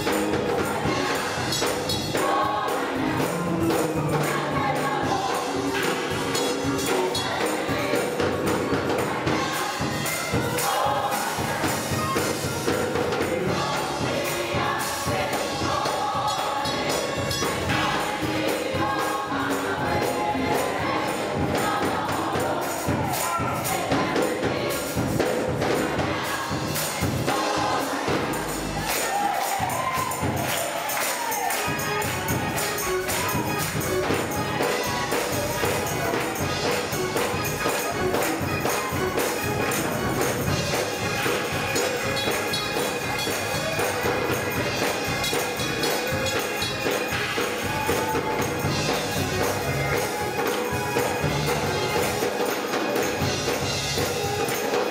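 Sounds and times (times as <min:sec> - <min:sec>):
gospel choir singing: 0:00.0 - 0:54.9
tambourine jingling: 0:00.0 - 0:54.9.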